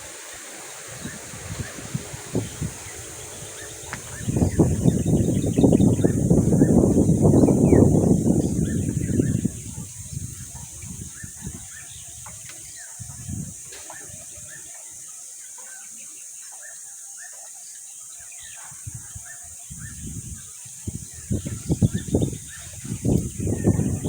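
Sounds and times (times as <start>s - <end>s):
wind buffeting microphone: 0.0s - 14.7s, 18.4s - 24.0s
birds chirping: 0.0s - 24.0s
steady high hiss: 0.0s - 24.0s.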